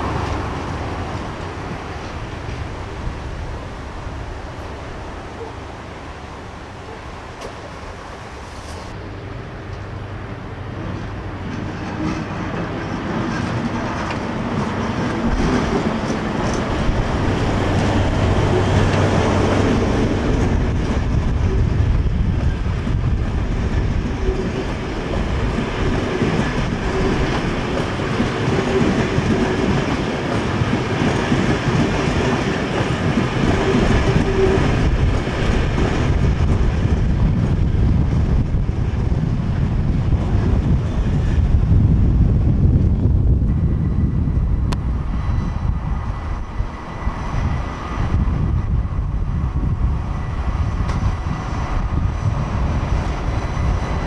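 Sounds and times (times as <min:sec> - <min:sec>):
diesel train engines droning: 0:00.0 - 0:54.0
train wheels on rails: 0:00.0 - 0:54.0.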